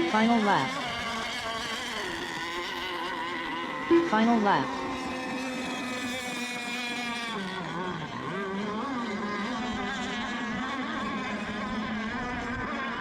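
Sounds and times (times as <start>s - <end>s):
model boat engines whining: 0.0s - 13.0s.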